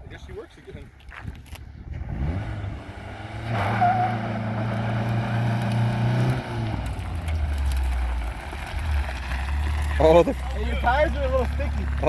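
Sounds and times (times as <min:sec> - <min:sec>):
car engine revving: 0:01.9 - 0:12.0.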